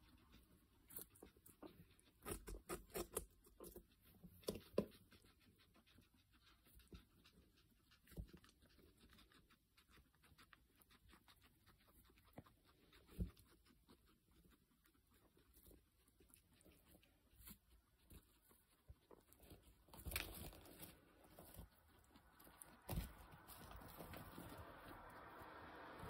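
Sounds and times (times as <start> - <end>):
guinea pig chewing: 0.0 - 26.0.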